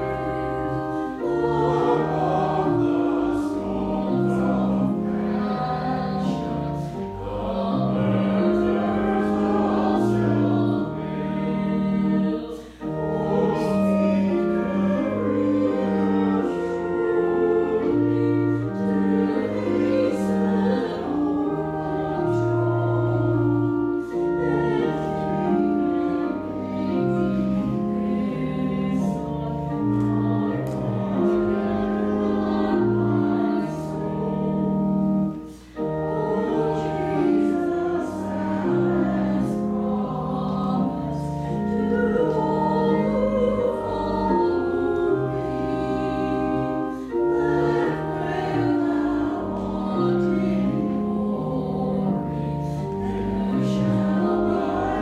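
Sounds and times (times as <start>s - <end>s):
choir singing a hymn: 0.0s - 55.0s
organ: 0.0s - 55.0s.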